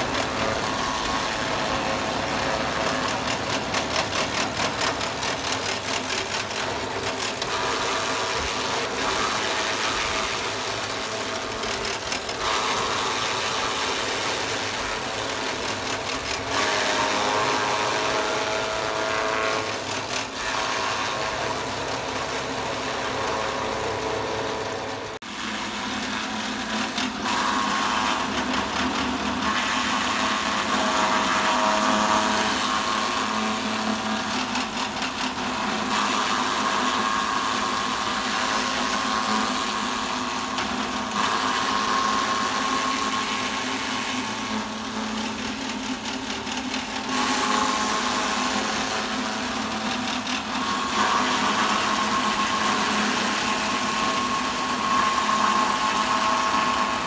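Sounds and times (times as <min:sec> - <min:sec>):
chaff cutter chopping grass: 0:00.0 - 0:24.5, 0:25.2 - 0:57.0.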